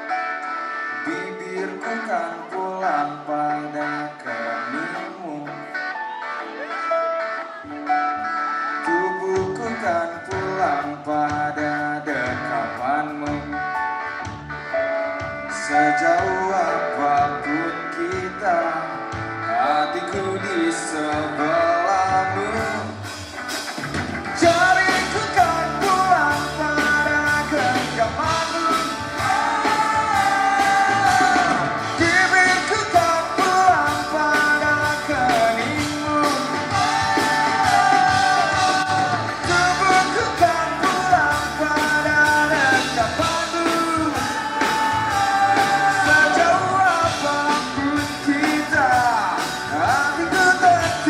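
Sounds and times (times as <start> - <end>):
band playing pop-rock song: 0.0 - 51.0
person singing: 0.9 - 14.0, 15.5 - 23.0, 24.4 - 51.0.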